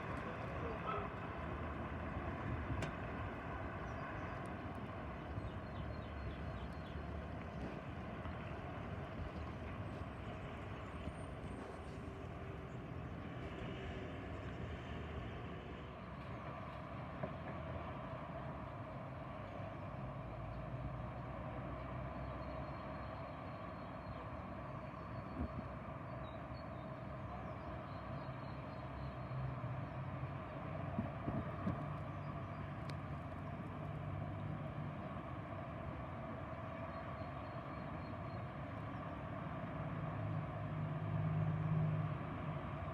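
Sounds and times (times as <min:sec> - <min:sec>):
traffic hum: 0:00.0 - 0:42.9.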